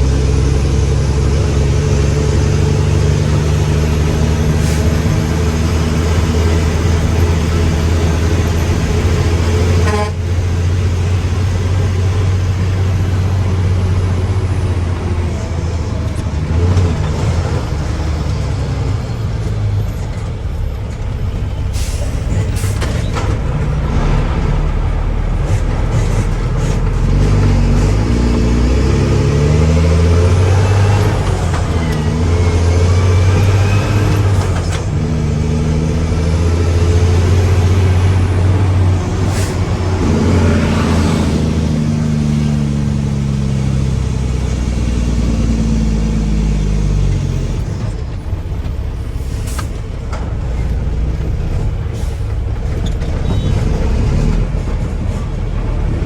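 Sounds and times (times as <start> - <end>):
truck diesel engine revving: 0.0 - 56.0.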